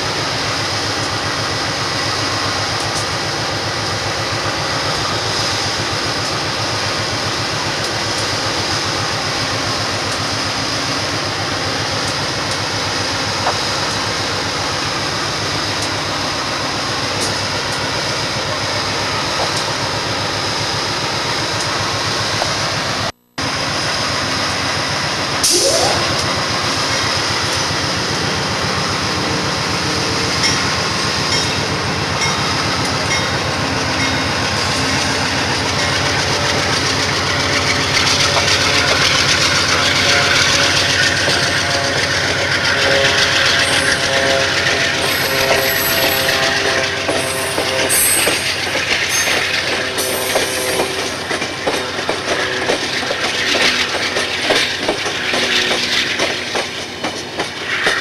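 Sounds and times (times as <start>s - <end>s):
diesel locomotive drone and whine: 0.0s - 58.0s.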